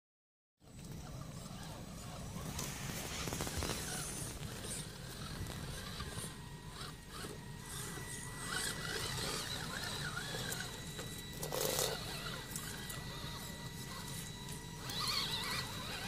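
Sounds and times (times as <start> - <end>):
rc truck motors whining: 0.6 - 16.0
scraping rustle: 1.1 - 16.0.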